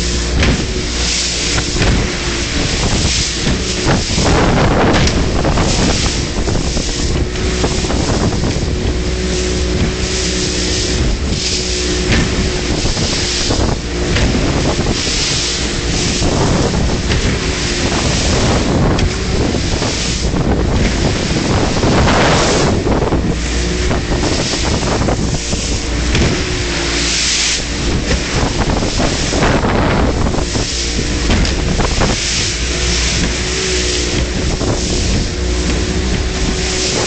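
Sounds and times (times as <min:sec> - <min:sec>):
boat engine running: 0:00.0 - 0:37.0
wind buffeting microphone: 0:00.0 - 0:37.0.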